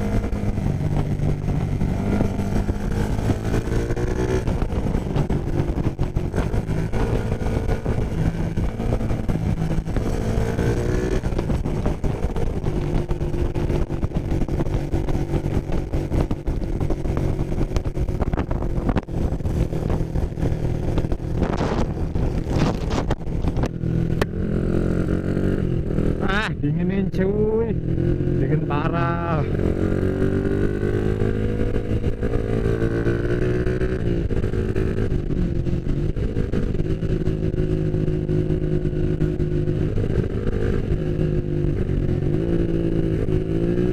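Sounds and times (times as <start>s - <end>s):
motorcycle engine running: 0.0s - 43.9s
wind noise: 0.0s - 43.9s.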